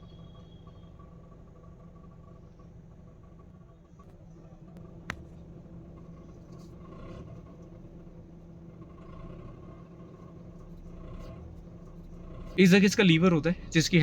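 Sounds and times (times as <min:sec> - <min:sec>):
car engine idling with rattle: 0:00.0 - 0:14.0.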